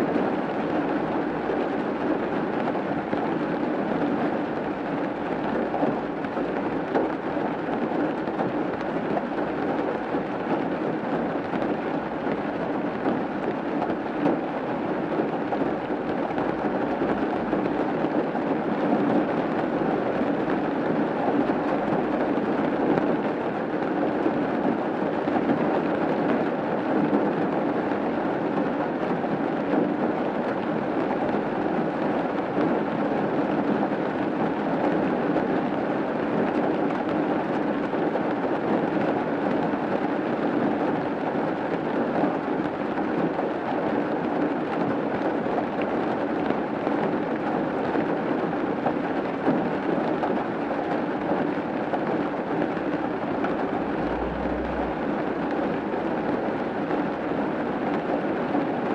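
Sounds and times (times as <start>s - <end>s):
rain falling on a roof: 0.0s - 58.9s.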